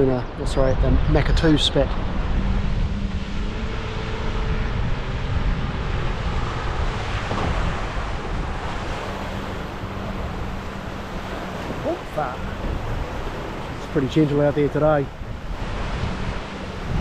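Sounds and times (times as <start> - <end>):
rush of coastal wind: 0.0 - 17.0
wind buffeting microphone: 0.0 - 17.0.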